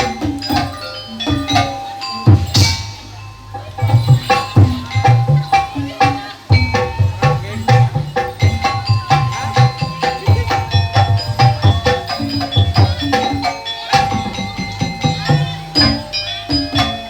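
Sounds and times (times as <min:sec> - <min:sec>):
hand drums beating quick rhythm: 0:00.0 - 0:17.0
ringing pitched metal percussion: 0:00.0 - 0:17.0.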